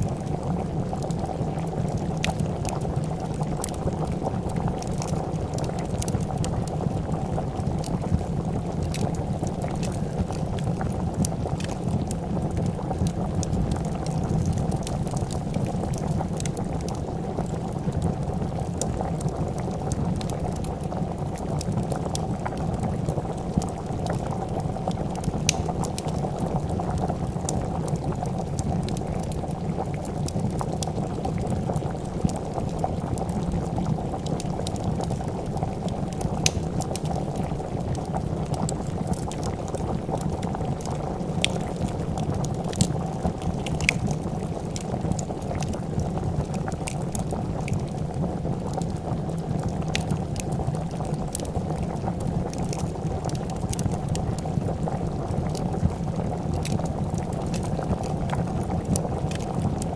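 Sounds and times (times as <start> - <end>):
soup bubbling at a boil: 0.0 - 59.9
wood fire crackling: 0.0 - 59.9.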